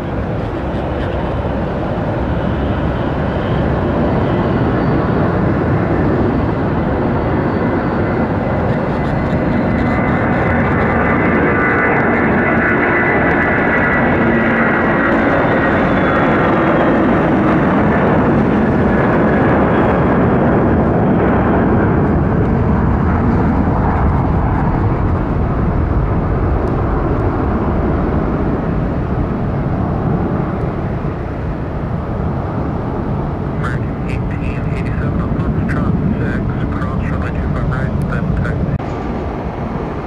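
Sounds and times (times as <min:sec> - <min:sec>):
jet engines passing: 0:00.0 - 0:40.0.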